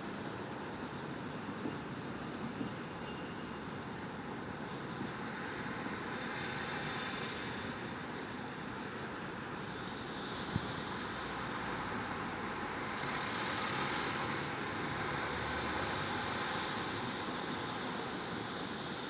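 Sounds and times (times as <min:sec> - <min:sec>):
distant city traffic hum: 0:00.0 - 0:19.0.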